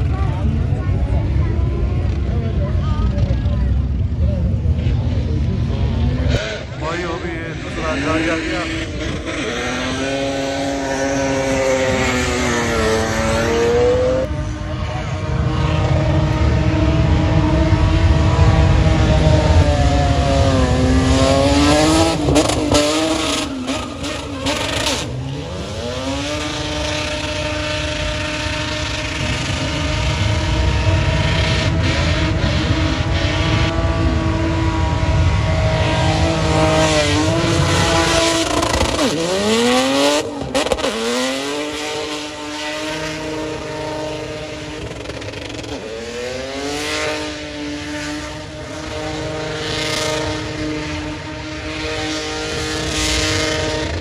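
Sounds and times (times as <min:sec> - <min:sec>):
engine at high revs: 0:00.0 - 0:54.0.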